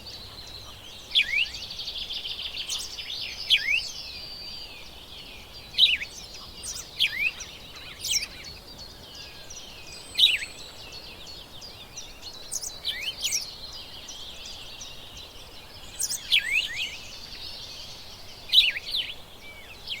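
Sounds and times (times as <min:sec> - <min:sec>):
chorus of small birds: 0:00.0 - 0:20.0.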